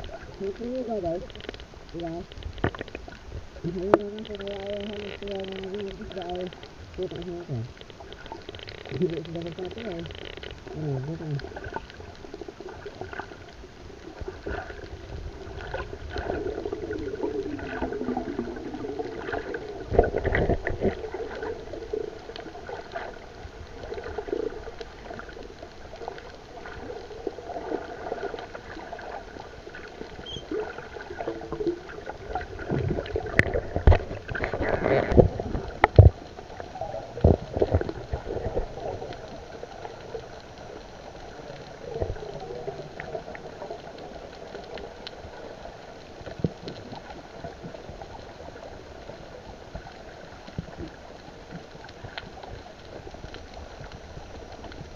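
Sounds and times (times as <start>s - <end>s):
underwater gurgling and bubbling: 0.0s - 54.9s.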